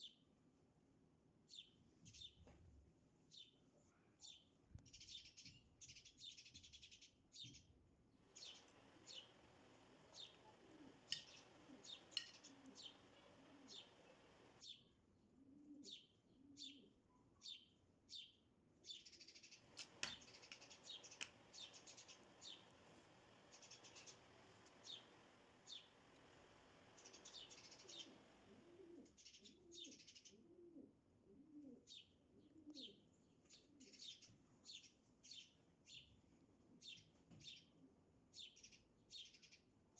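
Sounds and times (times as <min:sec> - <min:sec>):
faint birds chirping: 0:03.2 - 0:36.2.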